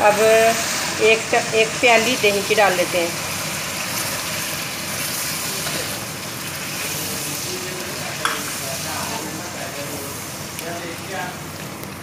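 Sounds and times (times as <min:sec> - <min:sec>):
spatula stirring in pan: 0:00.0 - 0:11.9
meat sizzling in oil: 0:00.0 - 0:12.0.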